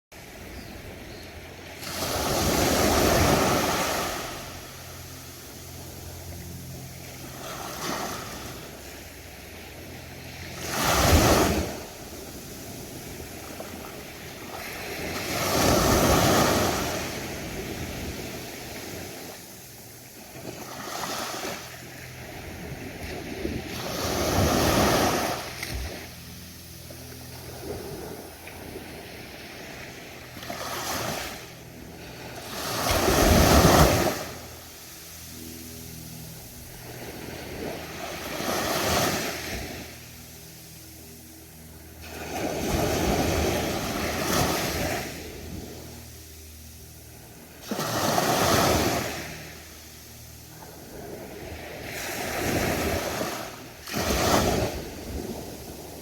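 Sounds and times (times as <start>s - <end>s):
background wash of surf: 0.2s - 56.0s
ocean waves breaking: 0.2s - 56.0s.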